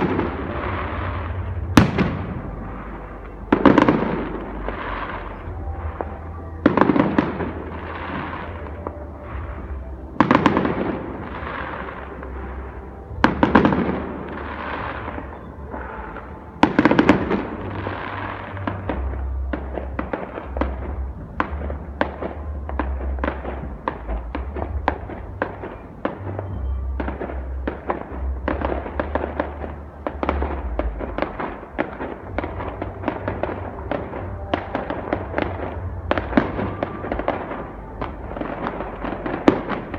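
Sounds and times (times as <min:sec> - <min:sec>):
fireworks bangs with rumble: 0:00.0 - 0:39.9
rapid fireworks crackling: 0:00.0 - 0:39.9.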